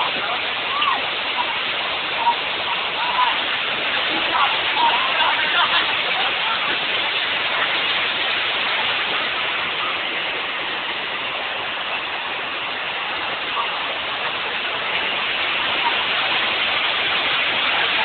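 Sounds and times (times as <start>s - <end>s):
water rushing over a weir: 0.0s - 18.0s.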